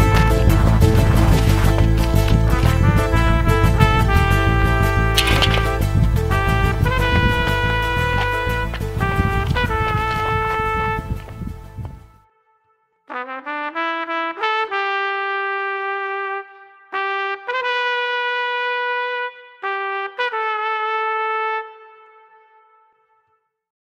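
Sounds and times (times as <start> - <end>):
solo trumpet melody: 2.5 - 23.4.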